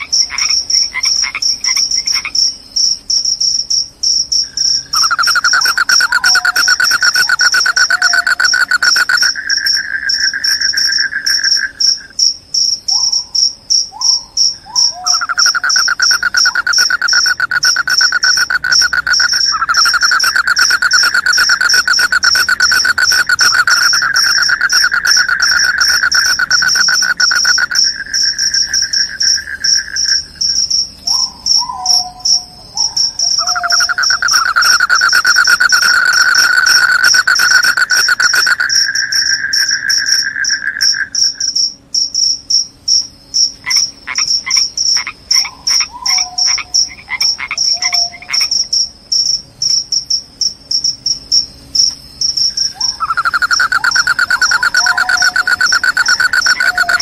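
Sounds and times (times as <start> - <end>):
crickets chirping in trills: 0.0 - 57.0.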